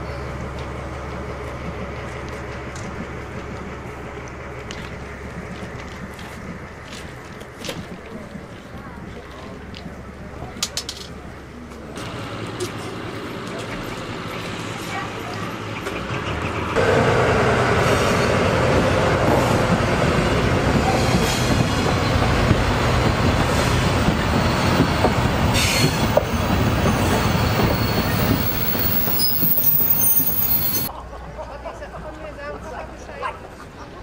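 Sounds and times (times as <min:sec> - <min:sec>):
train wheels on rails: 0:00.1 - 0:30.9.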